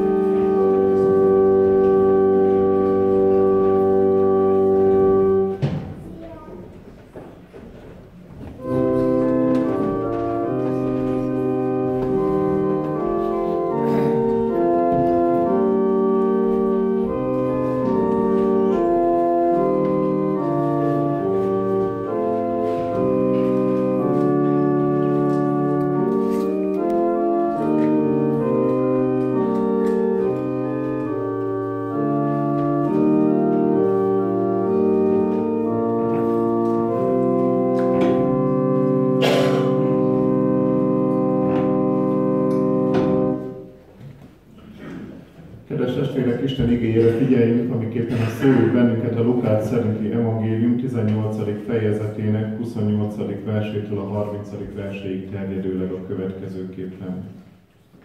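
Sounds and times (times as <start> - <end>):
church organ chords: 0.0 - 6.4, 8.2 - 44.0, 45.6 - 57.7.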